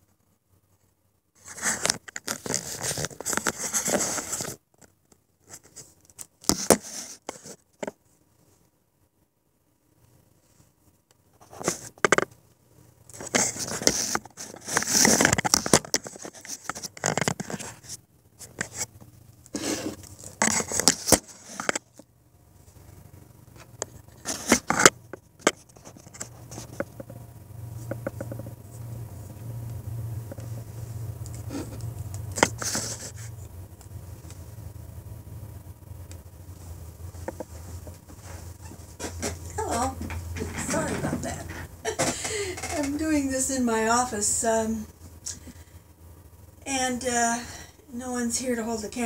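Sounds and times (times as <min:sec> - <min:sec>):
low steady hum: 0:07.4 - 0:49.0.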